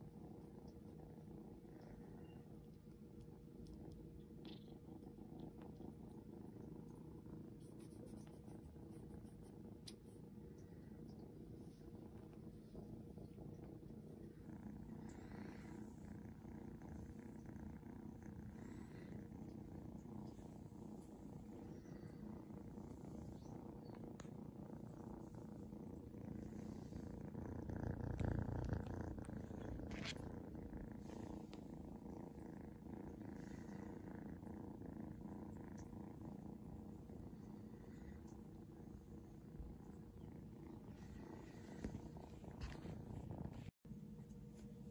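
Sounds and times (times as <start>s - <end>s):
kitten purring: 0.0s - 44.9s.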